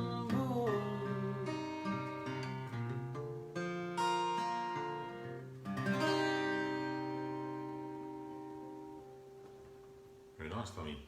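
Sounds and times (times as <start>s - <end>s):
acoustic guitar strumming chords: 0.0s - 10.4s.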